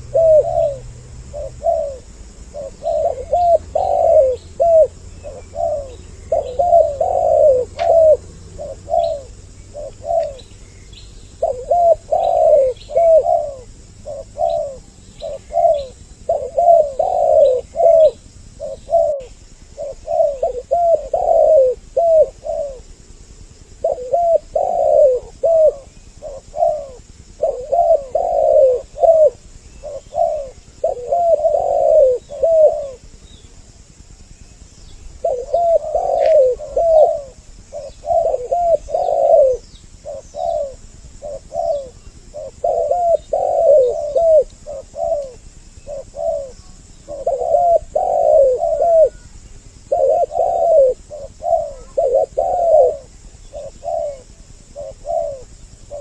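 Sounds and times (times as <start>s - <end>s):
doves cooing: 0.0s - 56.0s
small birds chirping: 0.0s - 56.0s.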